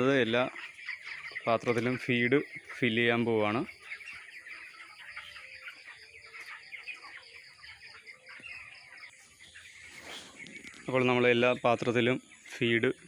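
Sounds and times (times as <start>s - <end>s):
chicks chirping and peeping: 0.0s - 13.0s.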